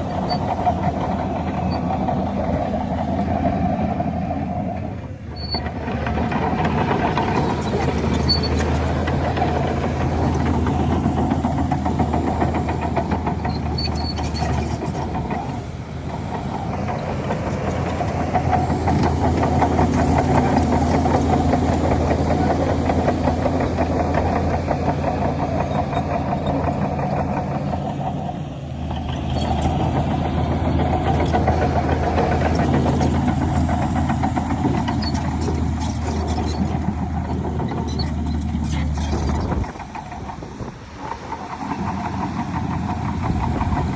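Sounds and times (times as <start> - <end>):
continuous rattle: 0.0 - 43.9
heavy diesel machinery engine: 0.0 - 43.9.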